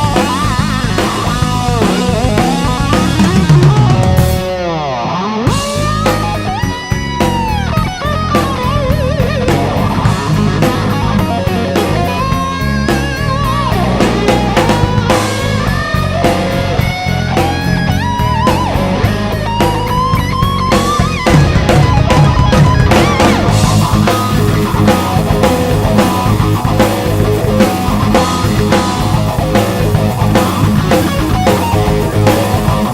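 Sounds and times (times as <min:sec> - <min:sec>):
bass guitar: 0:00.0 - 0:32.9
drum kit: 0:00.0 - 0:32.9
electric guitar lead: 0:00.0 - 0:32.9.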